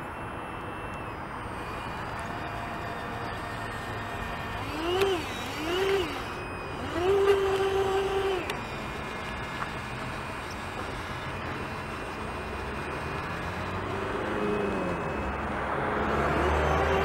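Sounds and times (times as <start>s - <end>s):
electric motor whining: 0.0s - 17.0s
faint falling whine: 0.0s - 17.0s
road traffic rumble: 0.0s - 17.0s
vehicle approaching: 0.0s - 17.0s.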